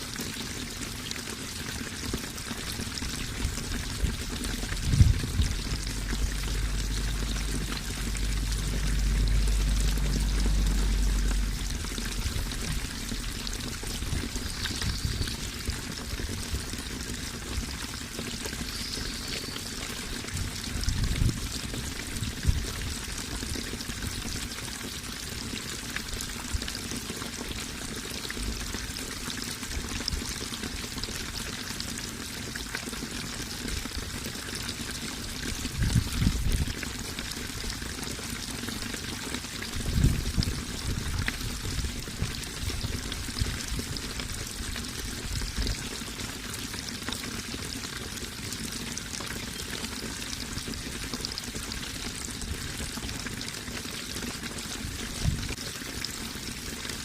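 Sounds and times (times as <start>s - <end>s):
low water surges: 0.0s - 57.0s
running water pouring: 0.0s - 57.0s.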